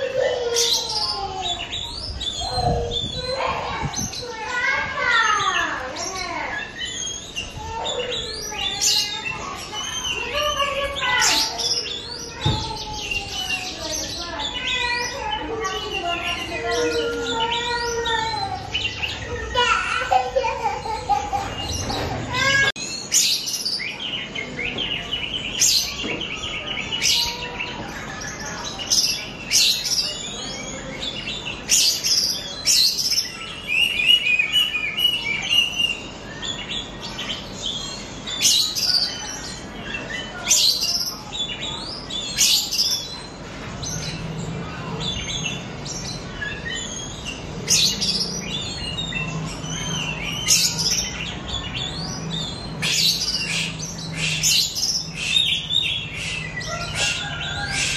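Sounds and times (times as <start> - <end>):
bird song with trills: 0.0 - 57.9.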